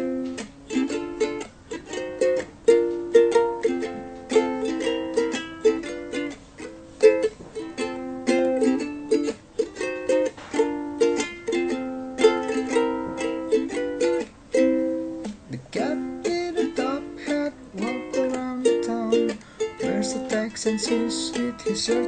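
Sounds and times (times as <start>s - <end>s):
strummed string chords: 0.0s - 22.0s.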